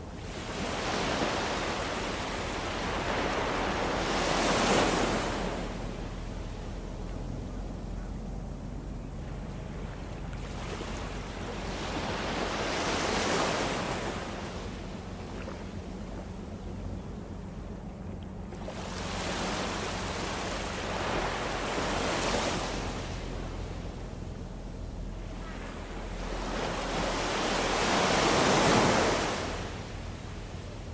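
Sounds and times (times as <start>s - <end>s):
small waves washing on shore: 0.0s - 16.9s, 18.3s - 30.9s
low steady rumble: 0.0s - 30.9s.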